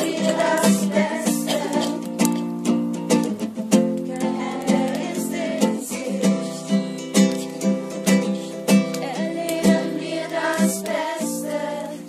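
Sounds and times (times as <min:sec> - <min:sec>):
group of voices singing: 0:00.0 - 0:02.2, 0:04.1 - 0:12.0
acoustic guitar strumming: 0:00.0 - 0:12.0.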